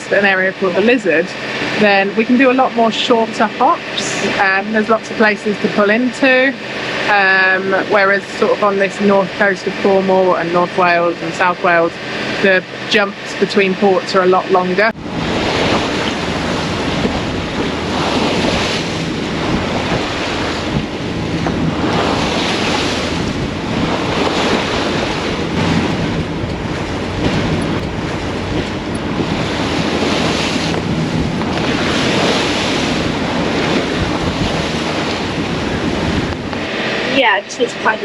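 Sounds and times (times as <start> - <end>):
low steady hum: 0.0 - 38.0
water splashing along hull: 0.0 - 38.0
wind buffeting microphone: 0.0 - 38.0.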